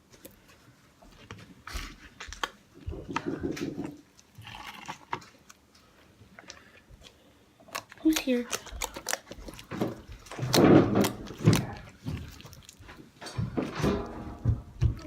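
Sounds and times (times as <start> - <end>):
slime squelching: 1.2 - 13.8.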